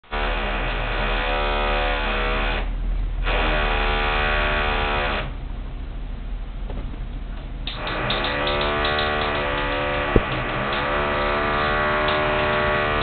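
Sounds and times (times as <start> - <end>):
power tool whining: 0.1 - 5.3, 7.7 - 13.0
low machinery rumble: 0.2 - 13.0.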